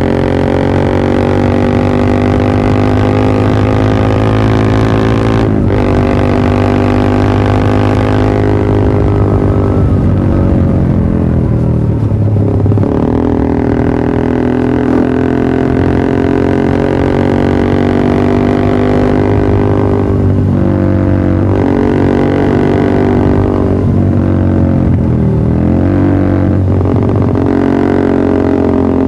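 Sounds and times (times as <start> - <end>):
motorcycle engine droning: 0.0 - 29.0.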